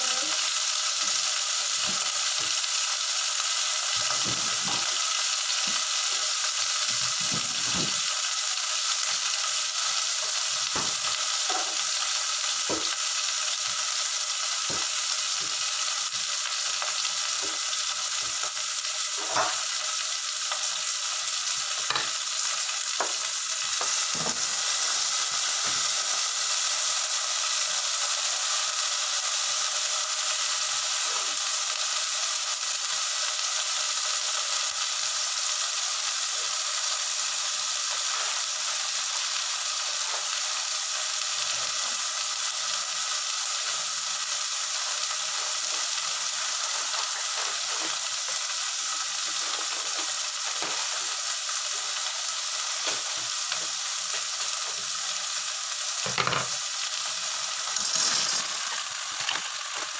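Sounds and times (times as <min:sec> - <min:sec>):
meat sizzling in a saucepan: 0:00.0 - 0:59.9.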